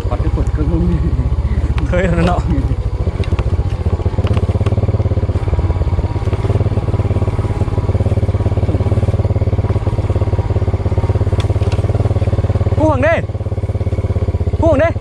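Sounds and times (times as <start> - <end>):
motorbike engine puttering: 0.0 - 15.0.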